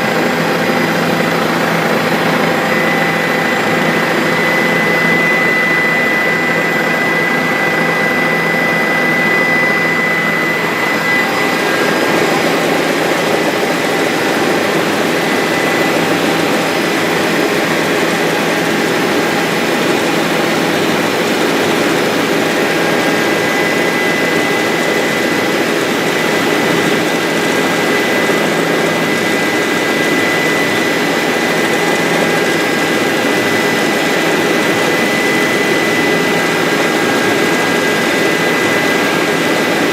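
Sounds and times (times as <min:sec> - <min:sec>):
helicopter drone with high whine: 0:00.0 - 0:39.9.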